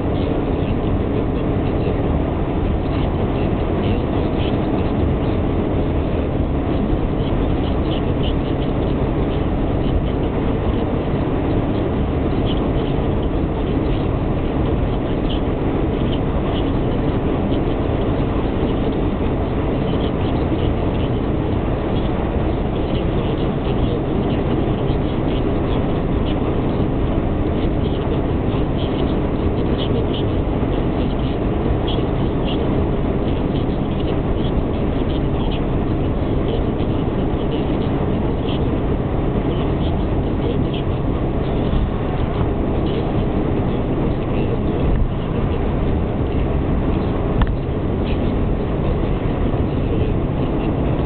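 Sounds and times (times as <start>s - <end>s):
car cabin drone: 0.0s - 51.0s.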